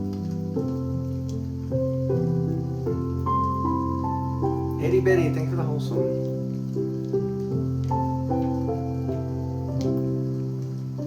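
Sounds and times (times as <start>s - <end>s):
gentle melody of held notes: 0.0s - 11.0s.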